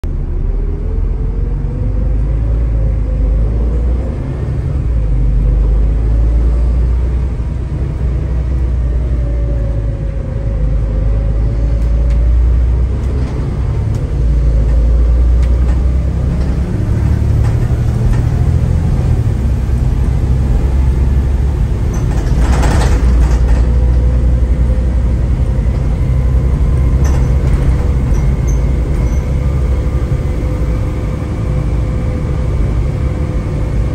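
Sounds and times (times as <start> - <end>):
bus engine rumble: 0.0 - 33.9
road noise: 0.0 - 33.9.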